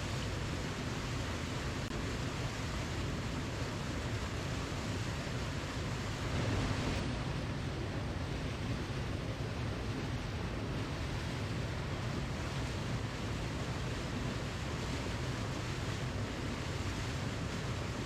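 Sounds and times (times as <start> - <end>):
waterfall roaring: 0.1 - 18.0.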